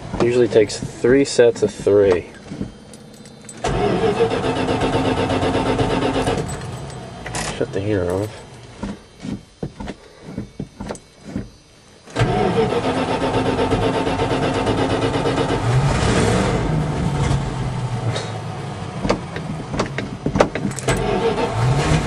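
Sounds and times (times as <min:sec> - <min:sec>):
pickup engine starting and running: 0:00.0 - 0:09.7, 0:10.3 - 0:22.0.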